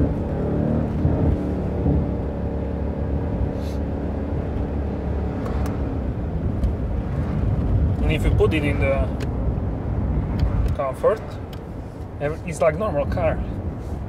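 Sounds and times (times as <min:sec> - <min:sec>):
car engine and exhaust droning: 0:00.0 - 0:14.0.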